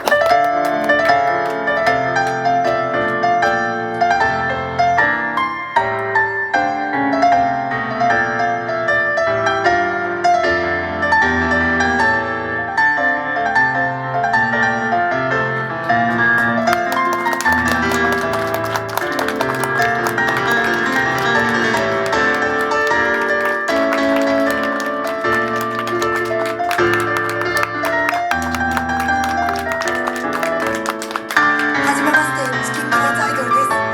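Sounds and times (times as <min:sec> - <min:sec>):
piano music: 0:00.0 - 0:11.6, 0:12.2 - 0:33.9.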